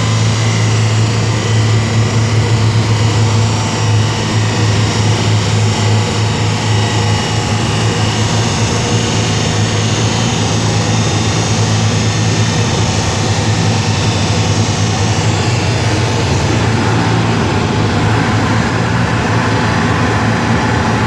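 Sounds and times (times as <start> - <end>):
car engine droning on a dyno: 0.0 - 21.0.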